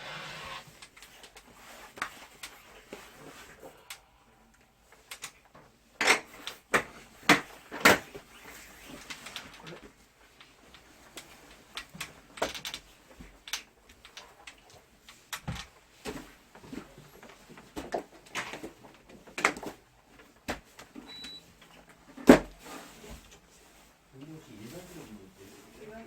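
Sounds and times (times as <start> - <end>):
parts and tools clicking and rattling: 0.7 - 25.0.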